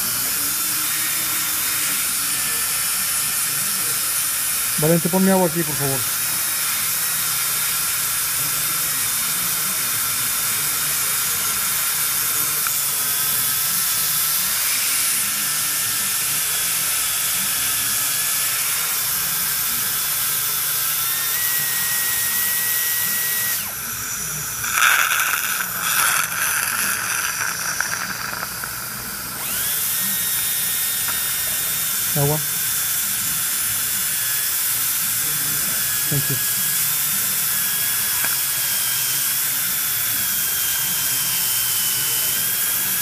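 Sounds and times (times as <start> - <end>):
dental handpiece whine: 0.0 - 43.0.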